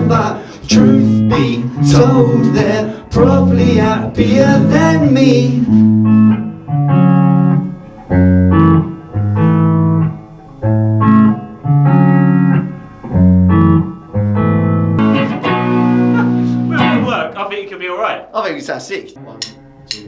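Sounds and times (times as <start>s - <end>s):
guitar chords: 0.0s - 20.0s.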